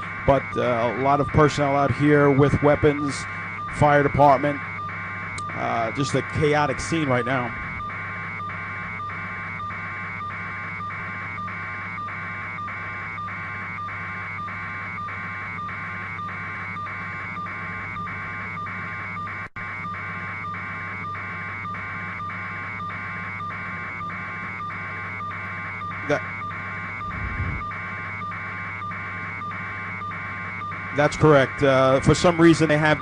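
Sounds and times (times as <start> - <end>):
helicopter cabin drone: 0.0 - 33.0
pulsing buzz: 0.0 - 33.0.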